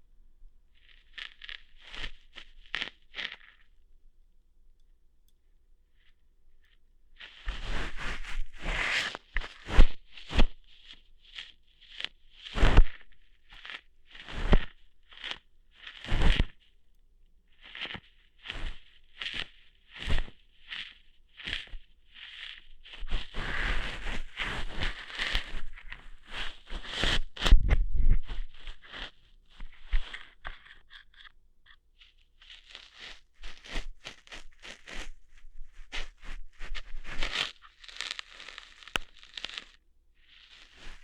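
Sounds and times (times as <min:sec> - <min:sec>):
ear hair plucking scrapes: 0:00.8 - 0:03.7, 0:07.2 - 0:16.6, 0:17.6 - 0:41.0.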